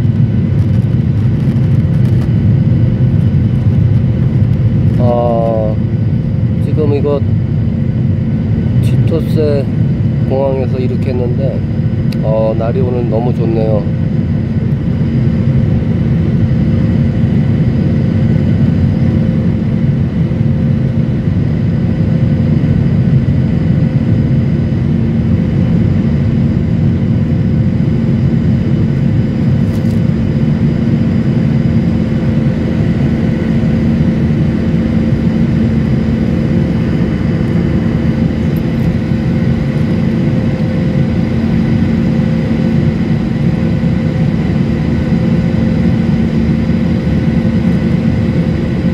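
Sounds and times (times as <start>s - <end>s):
jet engines droning: 0.0s - 48.9s.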